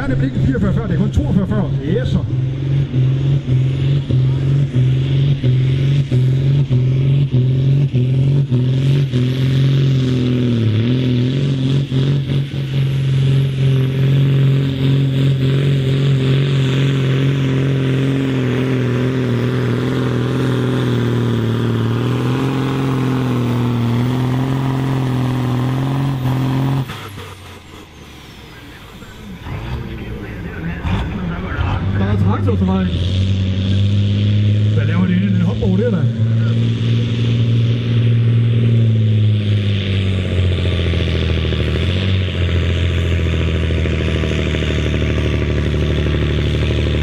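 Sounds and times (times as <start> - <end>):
tractor diesel engine droning: 0.0 - 47.0.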